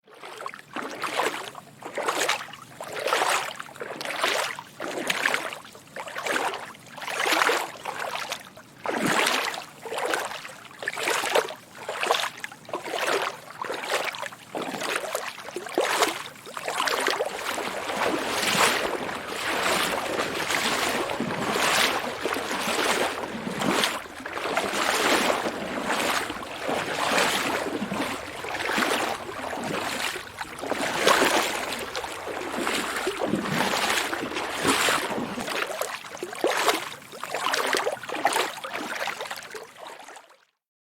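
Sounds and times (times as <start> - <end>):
footsteps wading through water: 0.0 - 40.4.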